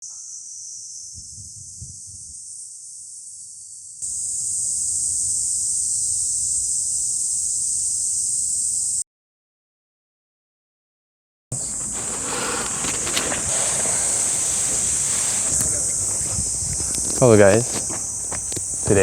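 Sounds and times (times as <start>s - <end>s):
high-pitched insect chorus: 0.0s - 9.0s, 11.6s - 19.0s.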